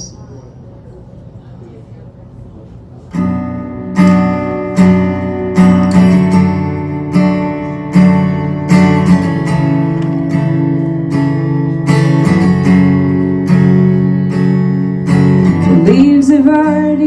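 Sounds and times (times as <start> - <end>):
acoustic guitar strumming: 3.1 - 17.0.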